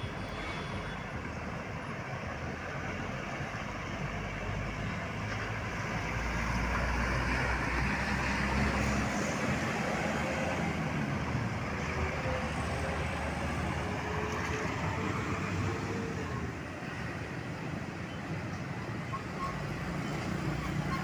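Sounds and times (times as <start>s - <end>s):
passing vehicles engines and tyres: 0.0s - 21.0s.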